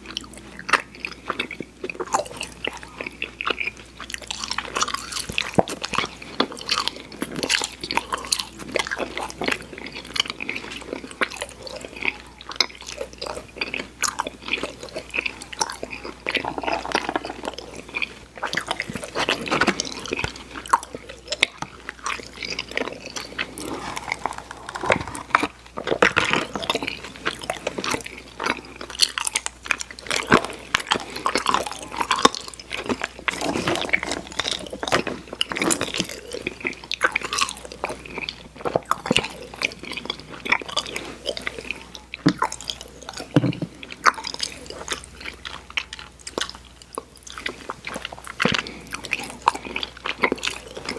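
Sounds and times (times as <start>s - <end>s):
wet chewing of candy: 0.0s - 50.9s.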